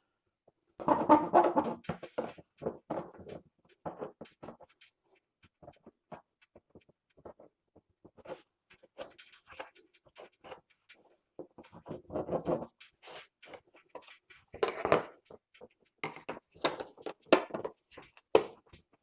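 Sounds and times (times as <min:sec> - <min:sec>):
small clicks and knocks on plastic: 0:00.8 - 0:19.0.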